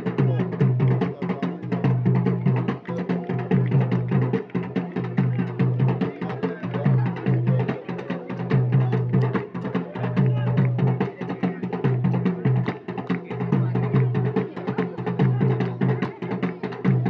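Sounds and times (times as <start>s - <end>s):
rapid drumbeats: 0.0s - 17.0s.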